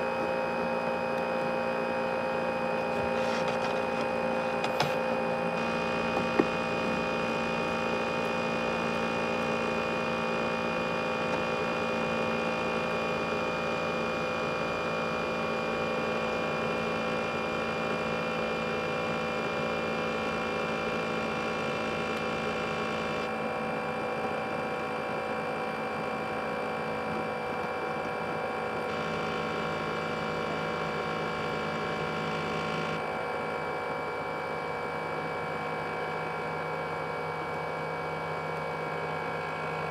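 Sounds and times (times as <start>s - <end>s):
laptop cooling fan running hard: 0.0s - 39.9s.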